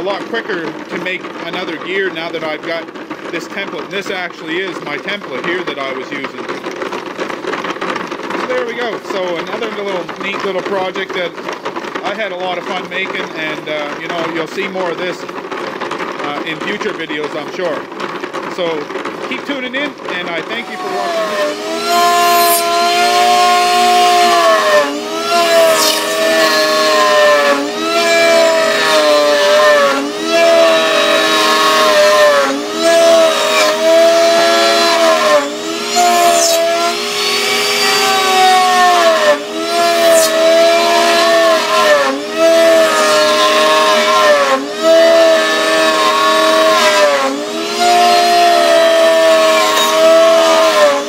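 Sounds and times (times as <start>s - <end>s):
router cutting wood: 0.0s - 51.0s.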